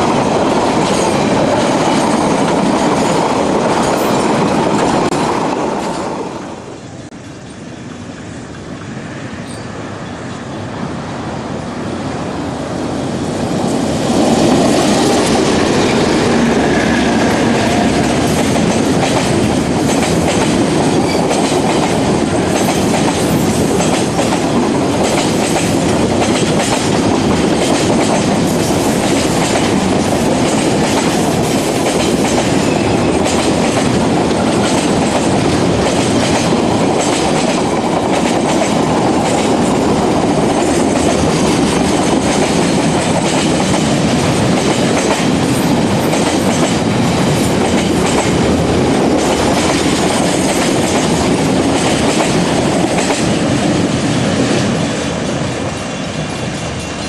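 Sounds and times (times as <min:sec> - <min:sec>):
freight train rumble: 0:00.0 - 0:57.0.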